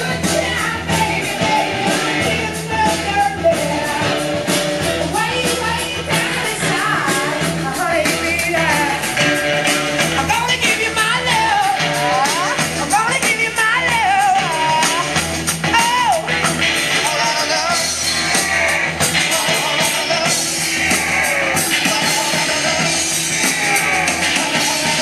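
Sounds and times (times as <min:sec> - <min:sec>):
person singing: 0:00.0 - 0:25.0
rock drums and guitar: 0:00.0 - 0:25.0.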